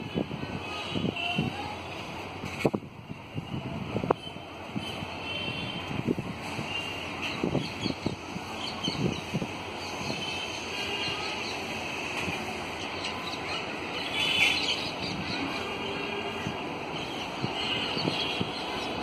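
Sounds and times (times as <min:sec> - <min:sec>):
distant train rumbling: 0:00.0 - 0:19.0.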